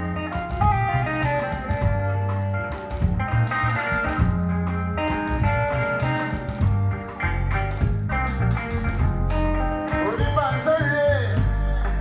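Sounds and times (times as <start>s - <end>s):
bass guitar: 0.0s - 12.0s
drums: 0.0s - 12.0s
electric guitar: 0.0s - 12.0s.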